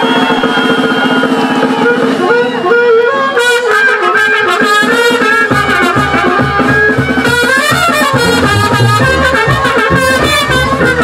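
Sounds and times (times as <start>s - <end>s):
drum beat: 0.0s - 2.8s, 3.4s - 11.0s
wind instruments playing a melody: 0.0s - 11.0s.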